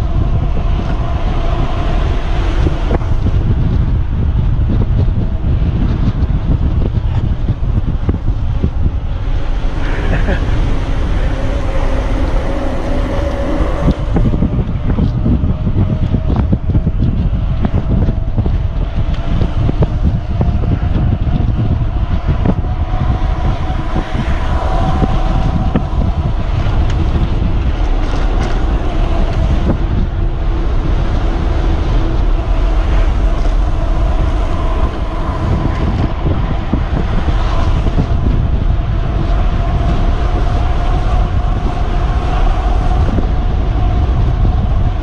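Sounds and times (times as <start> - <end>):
wind buffeting microphone: 0.0 - 45.0
faint wavering whine: 8.0 - 45.0.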